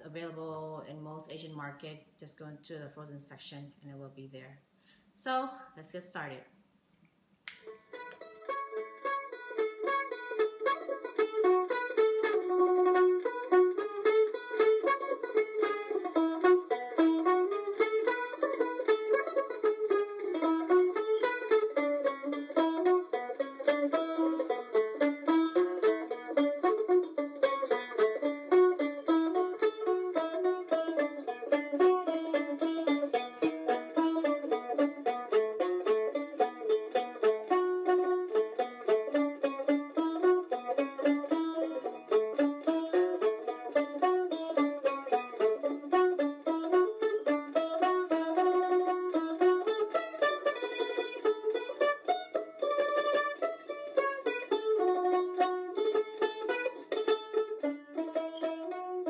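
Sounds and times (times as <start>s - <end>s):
plucked string instrumental tune: 7.5s - 59.0s.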